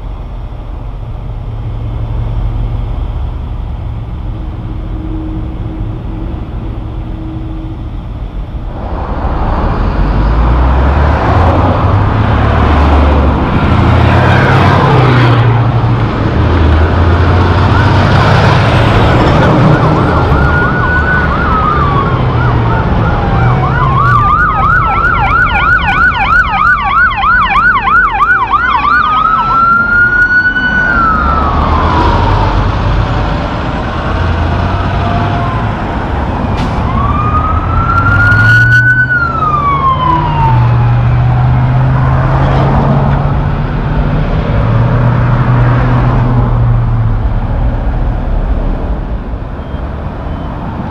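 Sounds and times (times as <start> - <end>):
emergency vehicle siren: 0.0 - 50.9
heavy trucks passing: 0.0 - 50.9.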